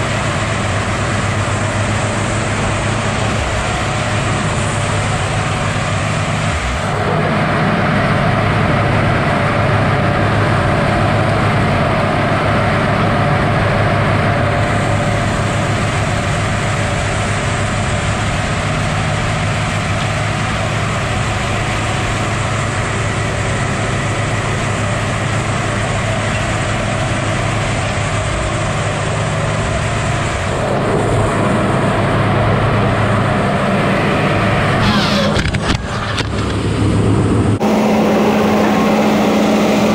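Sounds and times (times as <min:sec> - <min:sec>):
diesel engine and hydraulics drone: 0:00.0 - 0:39.9.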